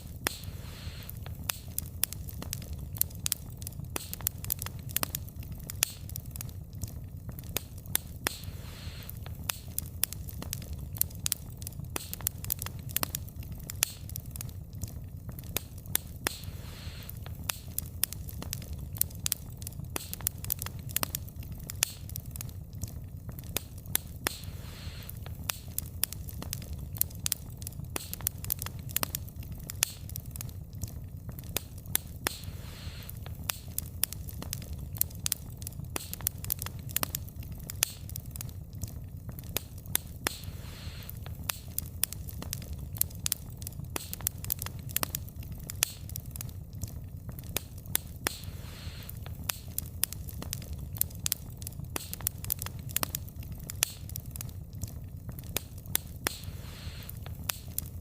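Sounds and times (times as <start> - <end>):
faint hiss: 0.0 - 14.7, 15.3 - 22.6, 23.3 - 30.7, 31.4 - 46.6, 47.5 - 54.6, 55.5 - 58.0
fire rumbling: 0.0 - 58.0
logs crackling and popping: 0.0 - 58.0.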